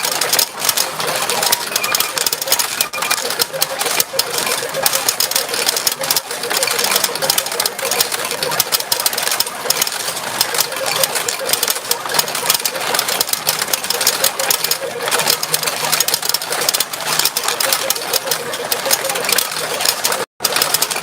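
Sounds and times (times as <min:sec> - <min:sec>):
pachinko balls clattering: 0:00.0 - 0:21.0.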